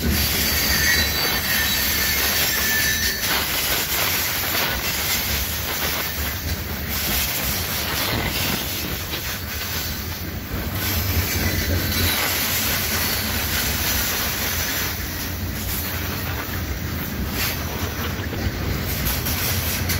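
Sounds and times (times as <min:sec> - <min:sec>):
freight train wheels rumbling: 0:00.0 - 0:19.9.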